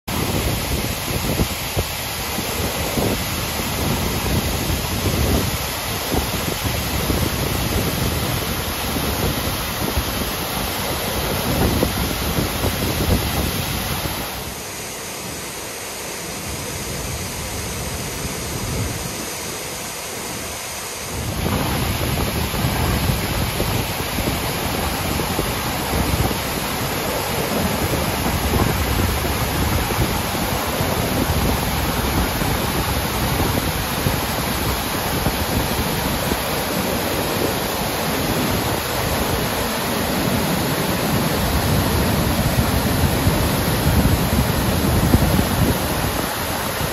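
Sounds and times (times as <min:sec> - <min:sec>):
waterfall rushing: 0:00.1 - 0:46.9.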